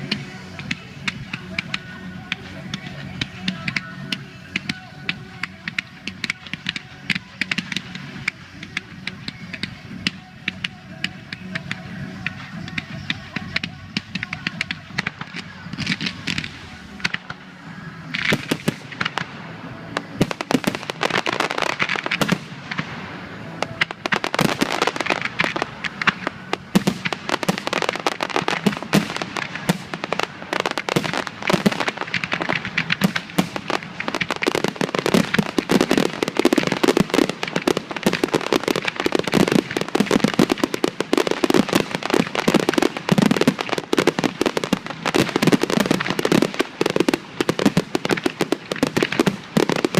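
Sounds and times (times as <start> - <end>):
fireworks crackling: 0.0 - 49.9.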